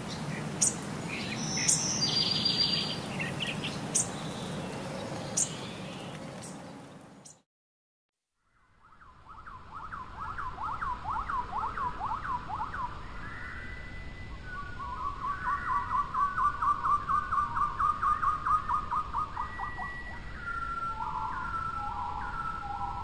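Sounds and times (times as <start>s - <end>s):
bird singing whistled notes: 0.1s - 6.6s, 8.5s - 23.0s.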